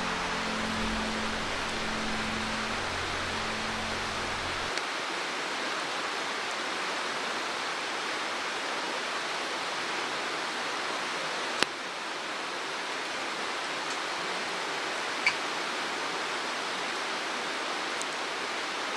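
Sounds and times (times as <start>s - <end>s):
mountain stream rushing: 0.0s - 18.9s.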